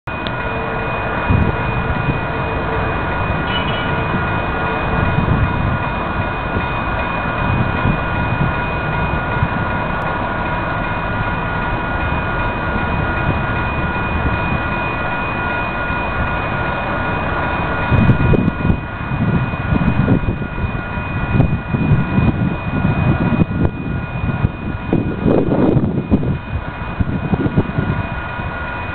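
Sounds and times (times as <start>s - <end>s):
train engine and rail noise: 0.0s - 28.9s
steady high tones: 0.1s - 28.9s.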